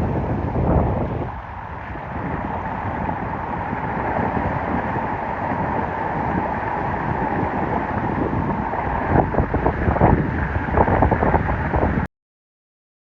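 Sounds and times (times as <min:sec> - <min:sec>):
heavy rain: 0:00.0 - 0:12.1
traffic on flooded road: 0:00.0 - 0:12.1
wind buffeting microphone: 0:00.0 - 0:12.1.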